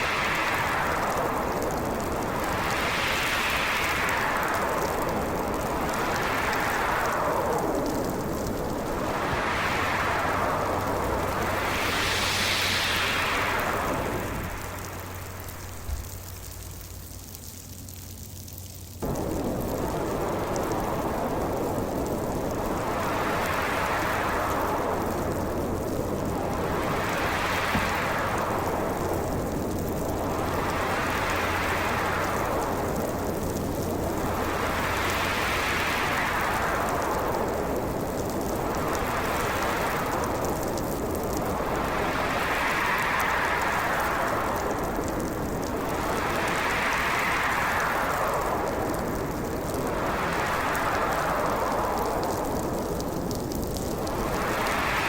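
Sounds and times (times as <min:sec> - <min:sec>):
heavy storm wind rushing: 0:00.0 - 0:17.4, 0:19.0 - 0:55.0
steady hiss: 0:00.0 - 0:55.0.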